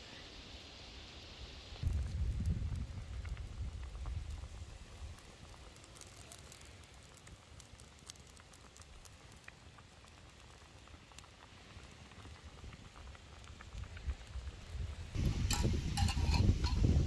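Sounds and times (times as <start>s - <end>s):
low hiss of cooking broth: 0.0s - 17.0s
fire crackling and popping: 0.3s - 17.0s.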